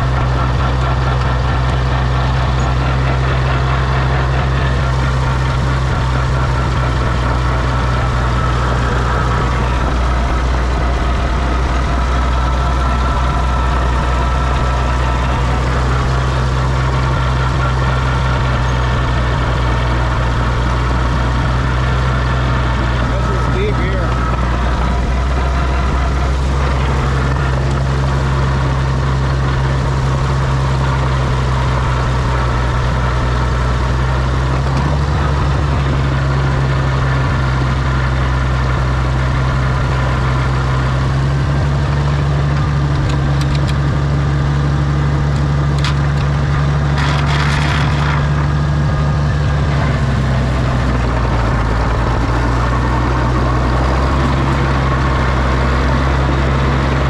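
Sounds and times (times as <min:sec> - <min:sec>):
crawler tractor engine running: 0:00.0 - 0:57.0.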